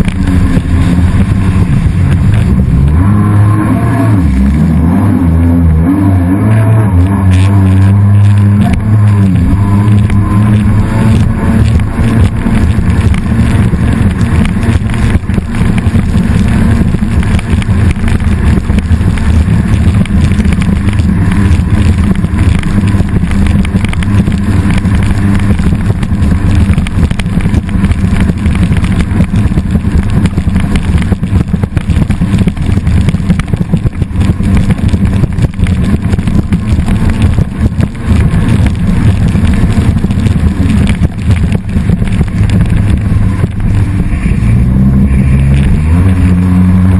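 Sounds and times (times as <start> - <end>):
jet ski engine running: 0.0 - 46.9
rushing noise: 0.0 - 46.9.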